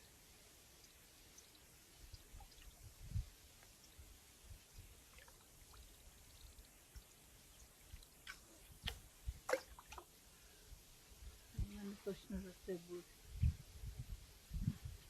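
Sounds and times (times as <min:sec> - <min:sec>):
faint water trickling: 0:00.0 - 0:15.0.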